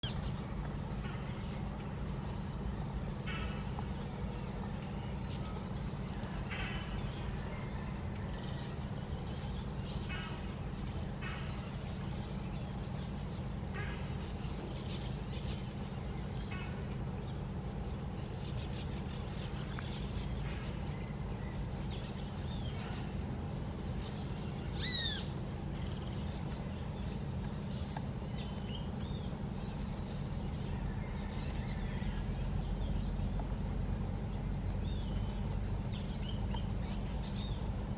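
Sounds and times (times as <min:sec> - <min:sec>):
bird calls and chirps: 0:00.0 - 0:37.9
steady low rumble: 0:00.0 - 0:37.9.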